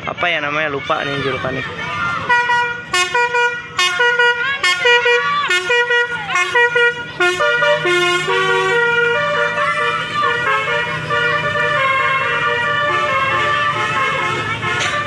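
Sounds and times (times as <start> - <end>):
melody horn playing tune: 2.2 - 15.0.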